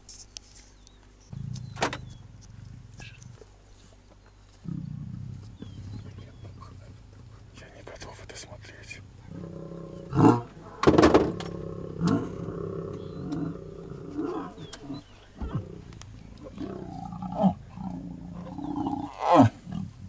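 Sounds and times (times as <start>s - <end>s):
steady low hum: 0.0s - 20.0s
lions growling: 1.3s - 4.0s, 4.6s - 20.0s.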